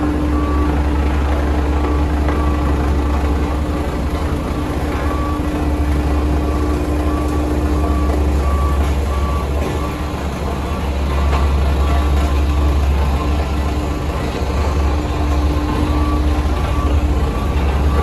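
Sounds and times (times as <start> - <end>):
diesel machine rumbling: 0.0 - 18.0
reversing alarm beeping: 0.0 - 18.0.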